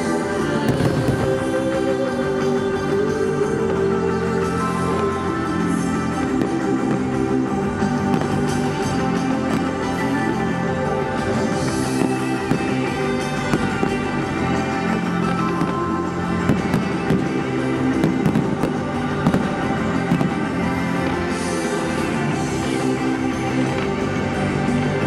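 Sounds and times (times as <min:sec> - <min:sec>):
loud anime song music: 0:00.0 - 0:25.0
fireworks banging and crackling: 0:00.1 - 0:25.0.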